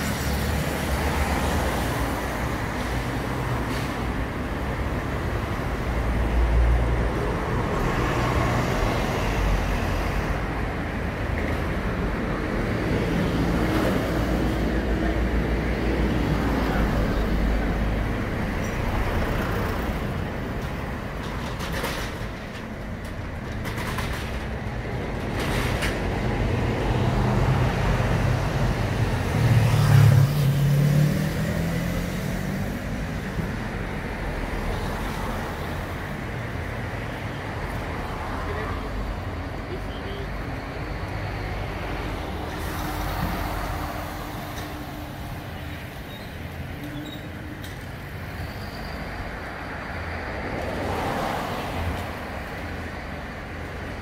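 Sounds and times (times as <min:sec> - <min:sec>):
rumble of passing cars: 0:00.0 - 0:54.0.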